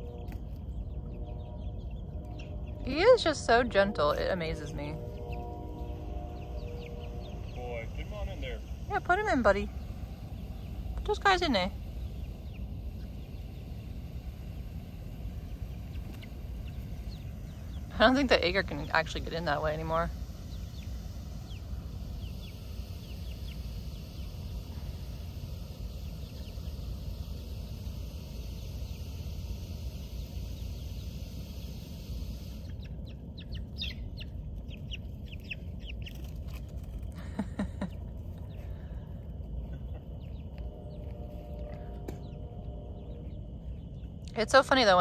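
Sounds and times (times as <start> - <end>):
chicks peeping: 0.0 - 45.0
steady low rumble: 0.0 - 45.0.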